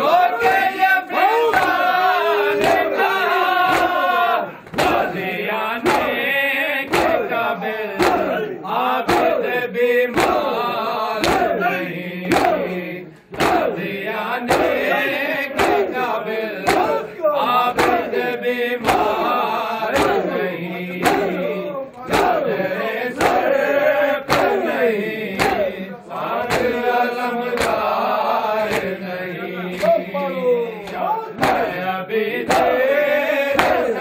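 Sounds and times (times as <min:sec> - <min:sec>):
men chanting in unison: 0:00.0 - 0:34.0
hands slapping chests: 0:01.4 - 0:34.0.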